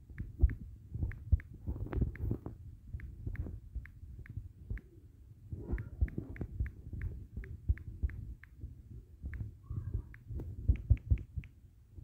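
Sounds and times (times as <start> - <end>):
fingertip thumps on screen: 0.1 - 4.9, 5.6 - 11.6.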